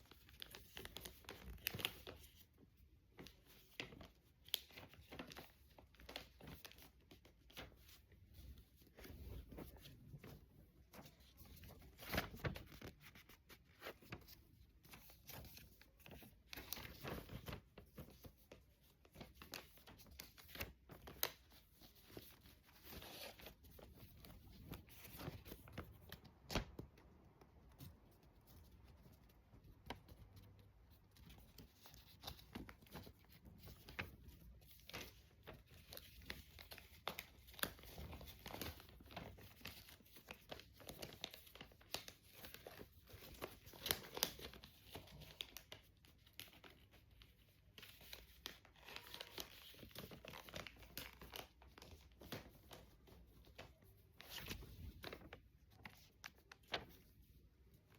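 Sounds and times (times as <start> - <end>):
paper rustling and crinkling: 0.0 - 57.9.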